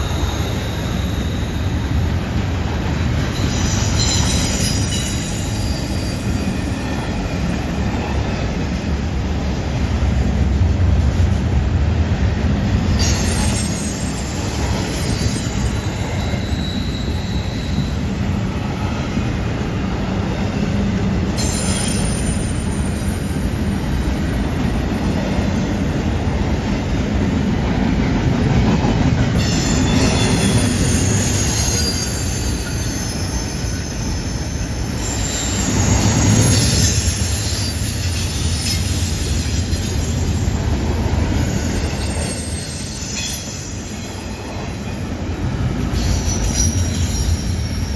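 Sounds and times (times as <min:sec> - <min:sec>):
rumble of train wheels on rail: 0:00.0 - 0:47.9.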